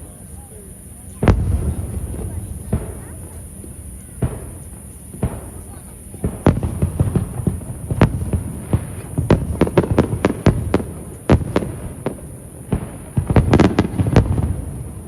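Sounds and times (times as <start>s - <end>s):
fireworks bangs: 0.0s - 15.0s
rumble of echoing booms: 0.0s - 15.0s.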